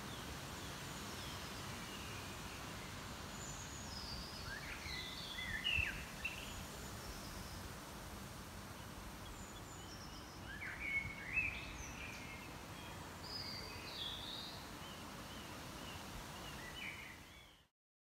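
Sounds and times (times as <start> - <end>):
low background noise: 0.0 - 17.7.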